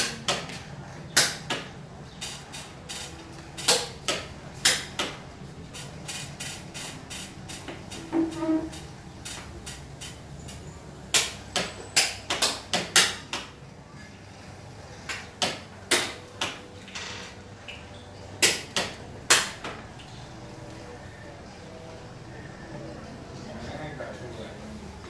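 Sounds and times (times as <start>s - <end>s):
faint background noise: 0.0s - 25.0s.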